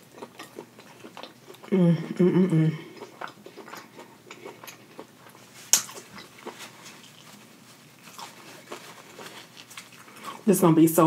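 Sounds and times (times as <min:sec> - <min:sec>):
wet chewing and mouth smacks: 0:00.0 - 0:01.7, 0:02.8 - 0:10.3.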